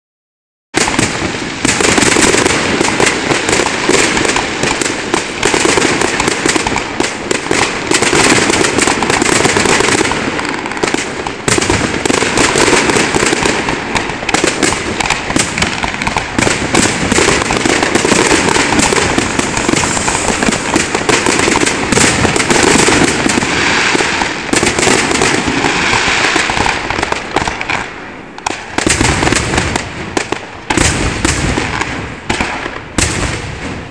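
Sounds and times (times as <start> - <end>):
fireworks bangs and crackling: 0.8 - 33.9.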